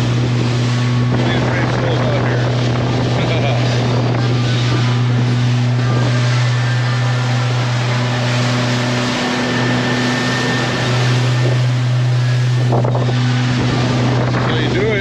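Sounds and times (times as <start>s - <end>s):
boat motor droning: 0.0s - 15.0s
rush of wind and water: 0.0s - 15.0s.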